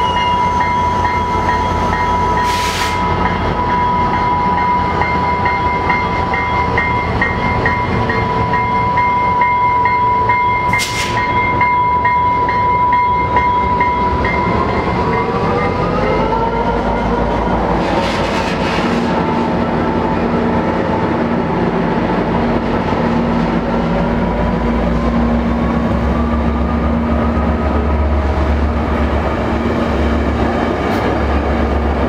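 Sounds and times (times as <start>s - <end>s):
train engine and wheels rumbling: 0.0s - 32.0s.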